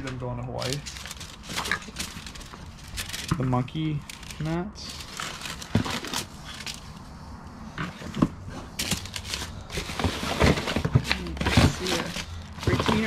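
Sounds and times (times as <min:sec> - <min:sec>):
hands rummaging through cardboard box: 0:00.0 - 0:03.5, 0:04.1 - 0:07.0, 0:07.8 - 0:13.0.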